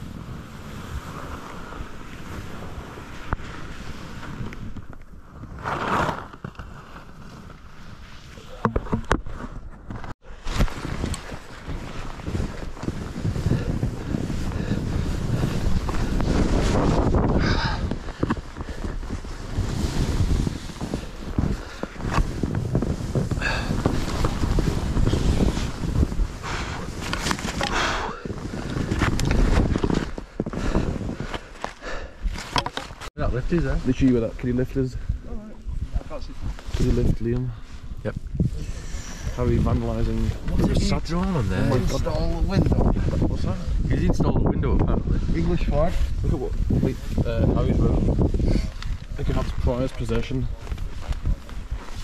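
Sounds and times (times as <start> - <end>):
wind buffeting microphone: 6.8 - 32.4, 33.2 - 52.0.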